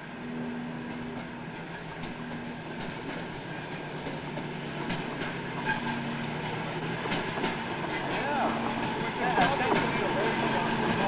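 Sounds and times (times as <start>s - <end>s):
small gasoline engines running: 0.0s - 11.0s
wheels clicking over rail joints: 0.6s - 11.0s.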